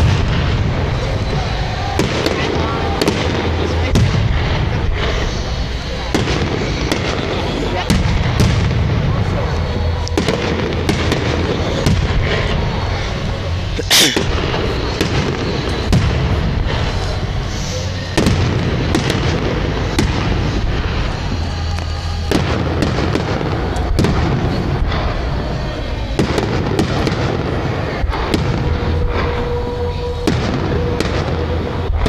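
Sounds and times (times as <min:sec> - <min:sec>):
continuous fireworks blasts: 0:00.0 - 0:32.0
fireworks bangs: 0:00.0 - 0:32.0.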